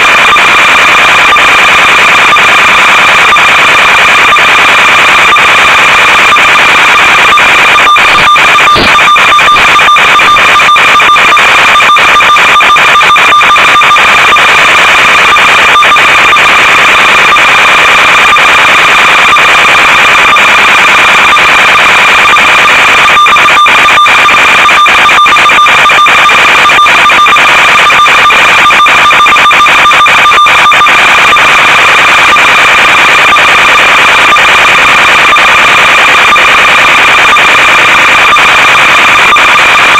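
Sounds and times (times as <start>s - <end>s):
crackling static: 0.0s - 39.9s.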